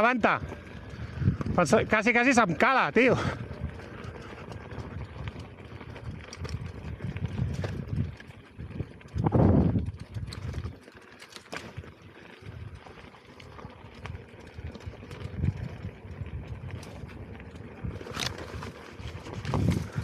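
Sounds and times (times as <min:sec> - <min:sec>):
unicycle tyre rattling over rough ground: 0:00.0 - 0:20.0.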